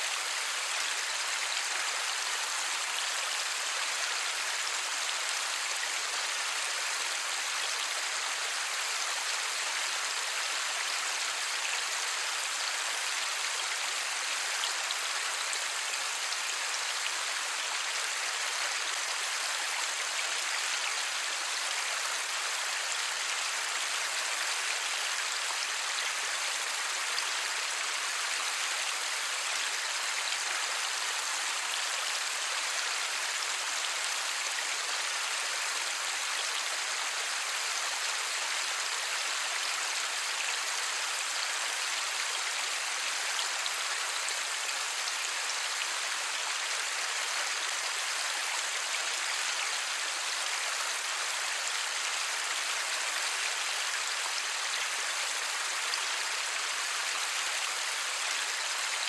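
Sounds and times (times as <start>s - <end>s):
steady light rain: 0.0s - 59.0s.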